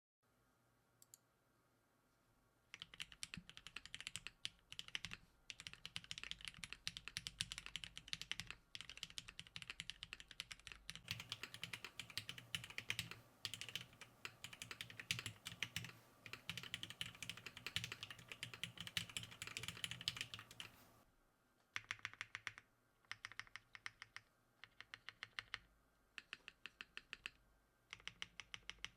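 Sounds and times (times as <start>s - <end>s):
mechanical keyboard typing: 2.8s - 20.8s, 21.8s - 28.9s.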